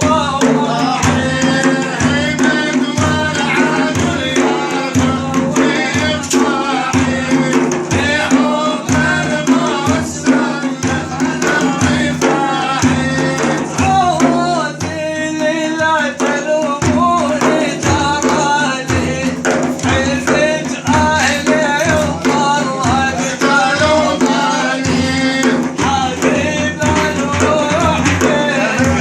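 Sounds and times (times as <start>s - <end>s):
hand drum percussion: 0.0s - 29.0s
man singing: 0.0s - 29.0s.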